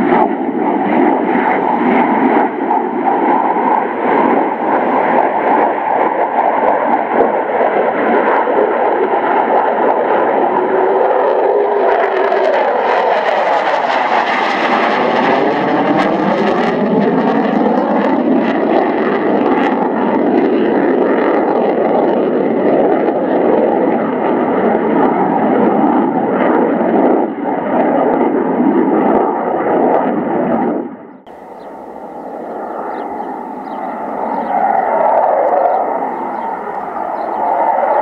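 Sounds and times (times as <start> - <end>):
jet engine roar: 0.0 - 38.0.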